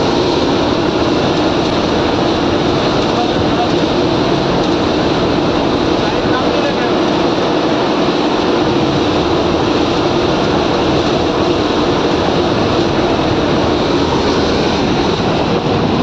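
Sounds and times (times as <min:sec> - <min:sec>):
coach engine and road noise: 0:00.0 - 0:16.0.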